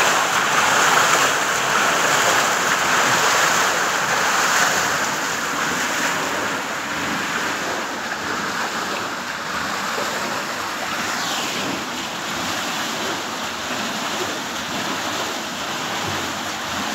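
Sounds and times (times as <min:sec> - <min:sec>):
water churning under a waterwheel: 0:00.0 - 0:16.9.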